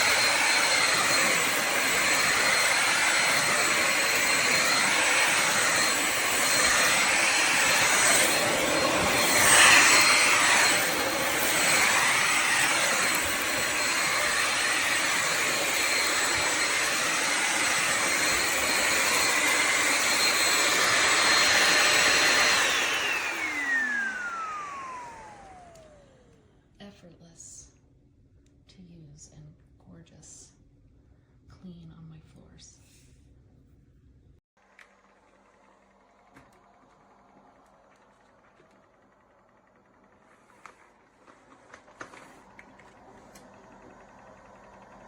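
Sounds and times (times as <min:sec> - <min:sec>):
vacuum motor whining: 0:00.0 - 0:26.6, 0:34.8 - 0:45.0.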